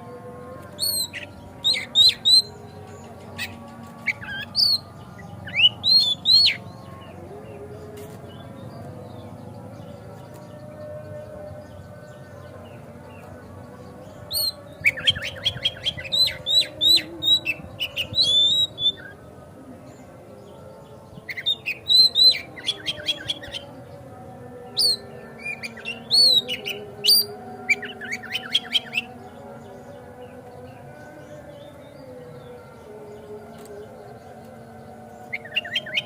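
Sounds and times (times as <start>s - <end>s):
bird singing high chirps: 0.6s - 19.2s, 20.4s - 24.0s, 24.7s - 36.0s.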